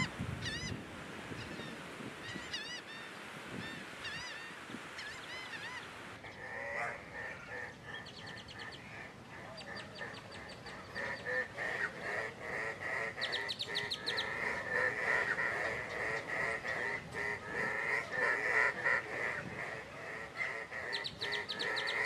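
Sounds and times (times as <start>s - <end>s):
honk-like bird calls: 0.0s - 8.1s, 9.4s - 22.0s
birds chirping: 0.0s - 22.0s.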